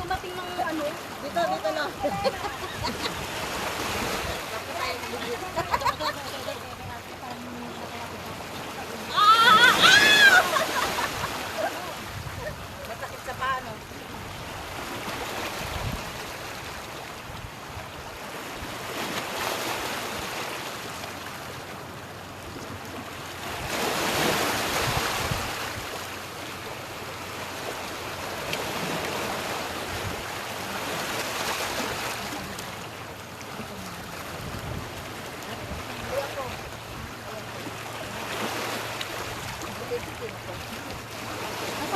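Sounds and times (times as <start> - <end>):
sea waves washing on shore: 0.0 - 41.9.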